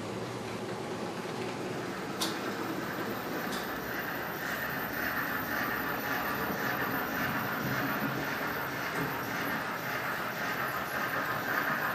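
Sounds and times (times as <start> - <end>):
model train rolling rumble: 2.2 - 11.9.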